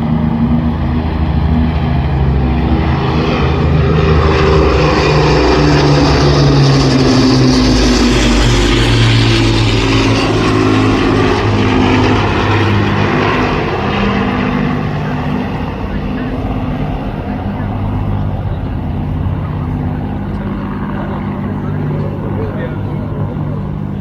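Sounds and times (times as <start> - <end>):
propeller plane flying past: 0.0 - 24.0.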